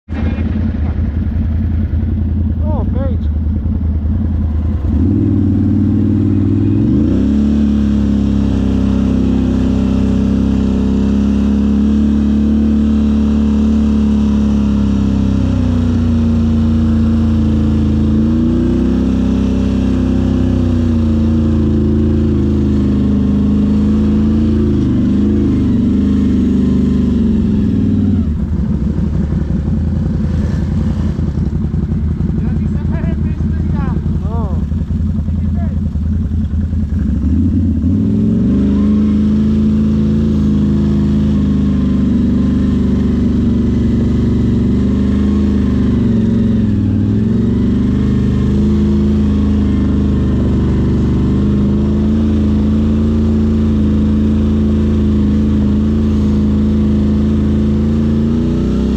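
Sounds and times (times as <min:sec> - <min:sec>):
quad bike engine revving: 0:00.0 - 0:58.9.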